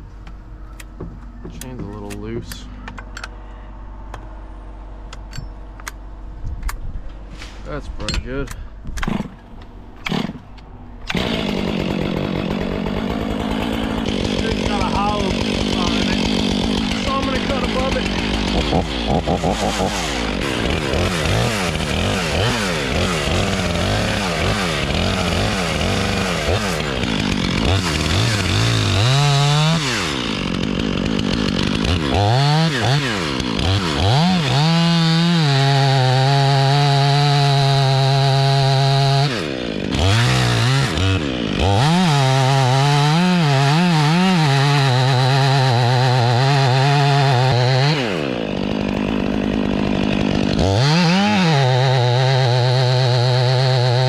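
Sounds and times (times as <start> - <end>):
chainsaw cutting wood: 9.0 - 10.5, 11.1 - 54.0.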